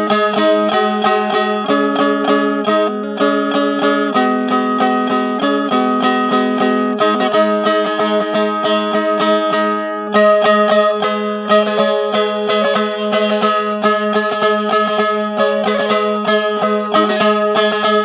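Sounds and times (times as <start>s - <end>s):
lute drone string: 0.0s - 18.0s
plucked lute melody: 0.0s - 18.0s.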